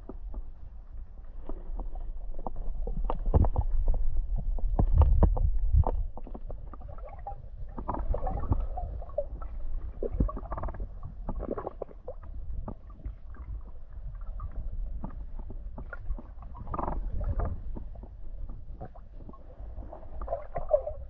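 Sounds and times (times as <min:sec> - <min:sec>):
low underwater rumble: 0:00.0 - 0:21.0
underwater clicks and knocks: 0:01.4 - 0:19.5.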